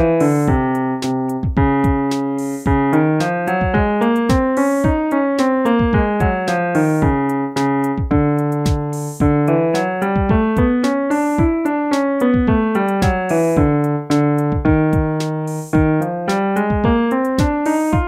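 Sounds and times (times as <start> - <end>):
piano scale runs: 0.0 - 18.0.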